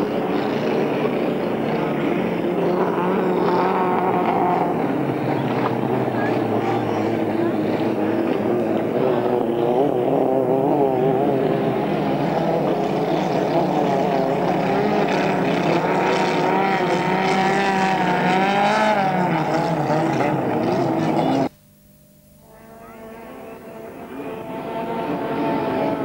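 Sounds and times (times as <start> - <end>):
racing boat engine running hard: 0.0 - 21.6, 22.4 - 26.0.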